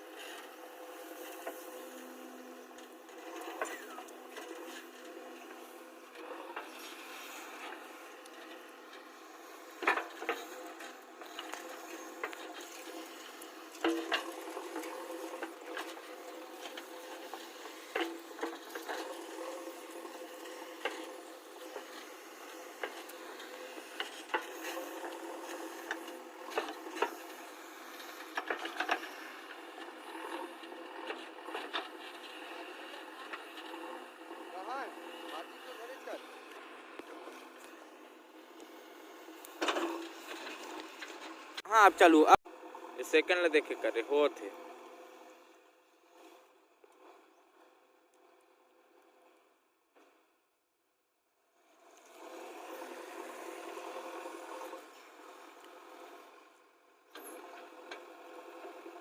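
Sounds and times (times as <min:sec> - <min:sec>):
backhoe engine hum: 0:00.0 - 0:49.5, 0:51.7 - 0:59.0.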